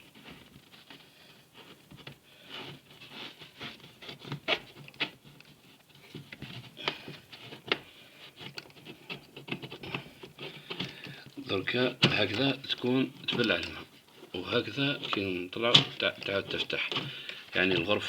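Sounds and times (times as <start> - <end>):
plastic parts clicking and rubbing: 0.0 - 18.0.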